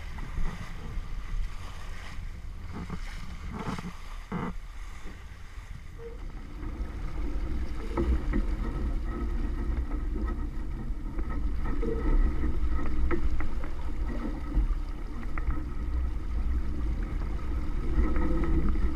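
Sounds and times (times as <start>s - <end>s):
water splashing along boat hull: 0.0s - 18.9s
wind buffeting microphone: 0.0s - 18.9s.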